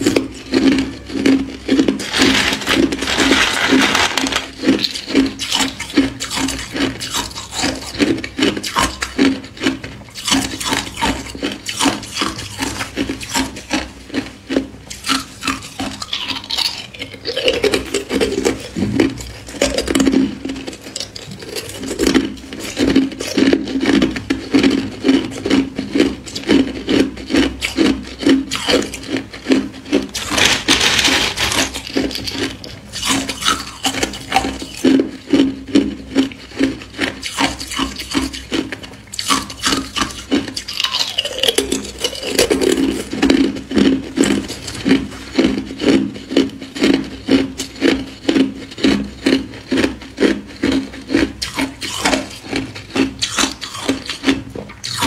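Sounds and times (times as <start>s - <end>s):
ice cubes crunching: 0.0s - 55.0s.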